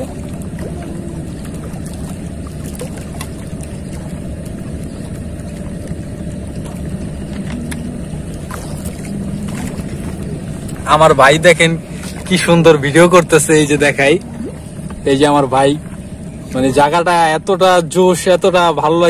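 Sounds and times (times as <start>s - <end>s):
motorboat engine droning: 0.0s - 19.0s.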